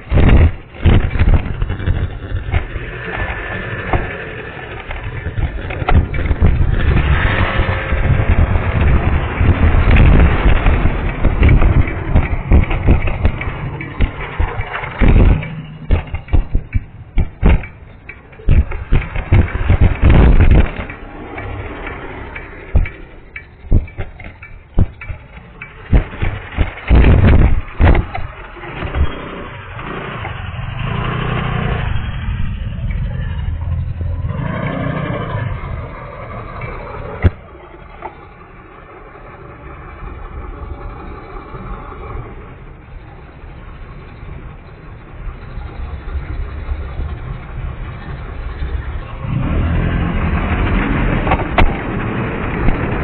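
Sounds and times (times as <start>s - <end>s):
vehicle on punctured tyre thumping: 0.0s - 39.2s, 46.0s - 53.0s.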